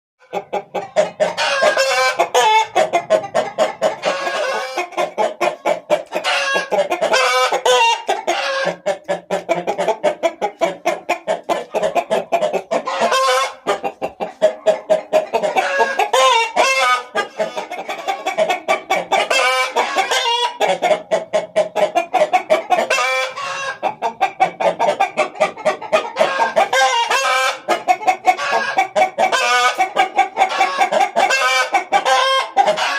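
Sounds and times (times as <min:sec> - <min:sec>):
chickens clucking: 0:00.2 - 0:32.9.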